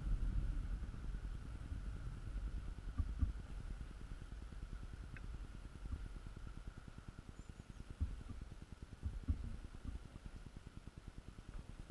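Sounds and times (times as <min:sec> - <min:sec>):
wind rumble on microphone: 0:00.0 - 0:11.9.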